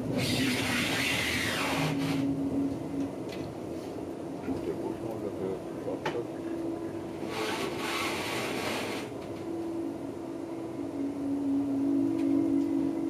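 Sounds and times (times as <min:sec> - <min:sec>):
train rumbling inside coach: 0:00.0 - 0:13.0.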